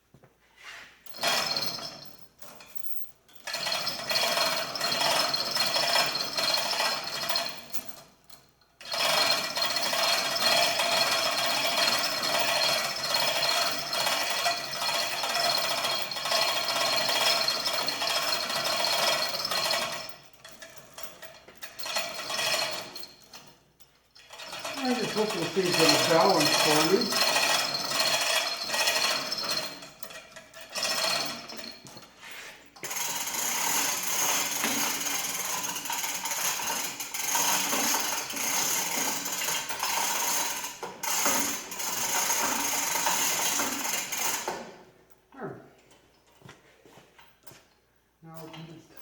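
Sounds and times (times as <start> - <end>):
power tool rattling: 1.1 - 2.0, 3.4 - 8.1, 8.8 - 23.5, 24.2 - 44.8.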